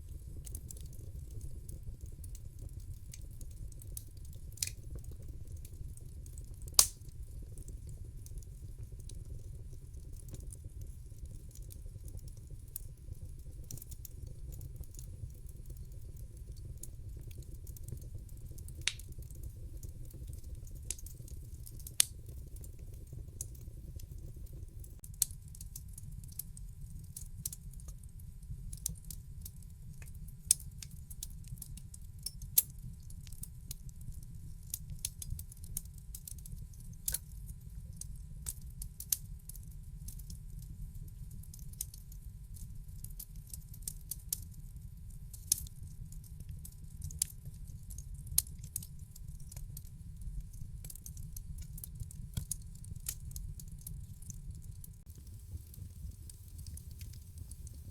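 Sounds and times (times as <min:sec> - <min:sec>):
low fire rumble: 0:00.0 - 0:57.9
wood fire crackling: 0:00.0 - 0:57.9.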